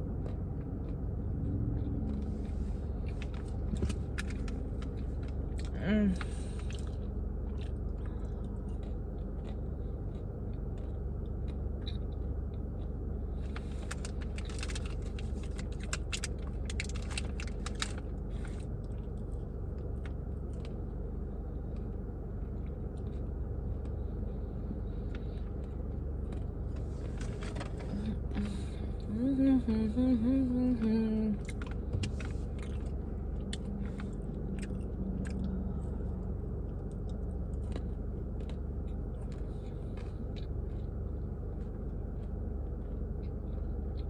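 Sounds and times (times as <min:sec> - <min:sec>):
chewing and crunching: 0:00.0 - 0:44.0
steady low hum: 0:00.0 - 0:44.0.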